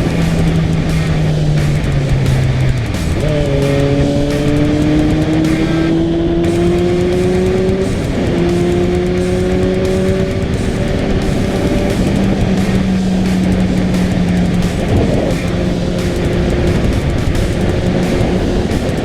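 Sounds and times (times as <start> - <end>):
motorcycle engine accelerating: 0.0 - 19.0
wind and road rush: 0.0 - 19.0.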